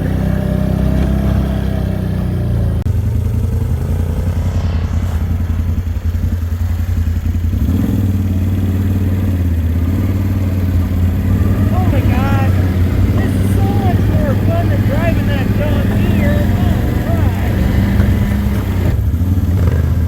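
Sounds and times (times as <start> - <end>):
atv engine under load: 0.0 - 4.1, 6.4 - 20.0.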